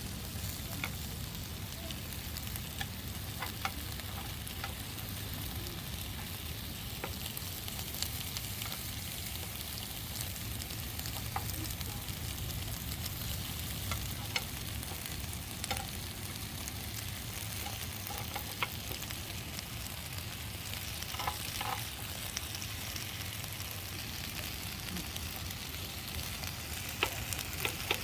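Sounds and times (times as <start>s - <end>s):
steak sizzling in a pan: 0.0s - 28.0s.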